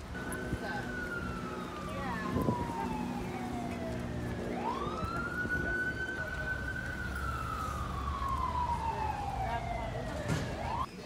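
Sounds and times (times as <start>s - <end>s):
distant siren wailing: 0.0s - 10.9s.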